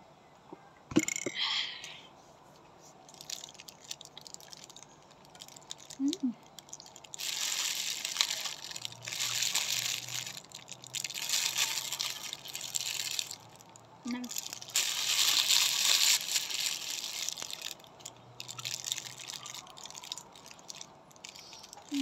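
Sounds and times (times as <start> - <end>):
chewing bread: 3.1 - 22.0
plastic bag crinkling: 3.1 - 22.0.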